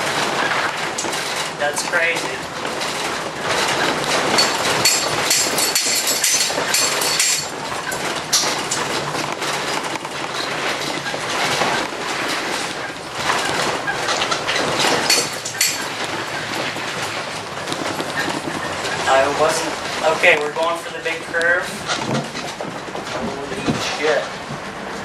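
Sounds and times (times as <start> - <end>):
road rumble: 0.0 - 25.0
structure clattering and rattling: 0.0 - 25.0.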